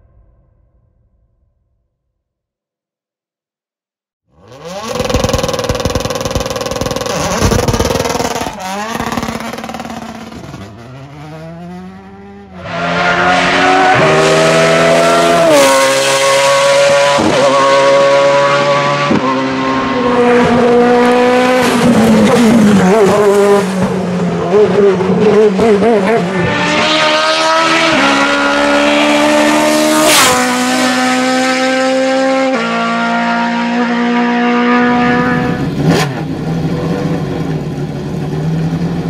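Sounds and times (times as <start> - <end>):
race car engines at high revs: 4.3 - 39.0.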